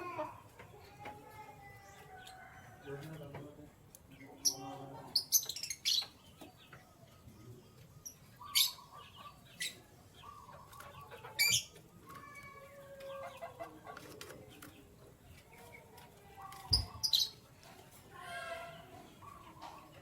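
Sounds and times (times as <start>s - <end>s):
canaries chirping: 0.0s - 20.0s.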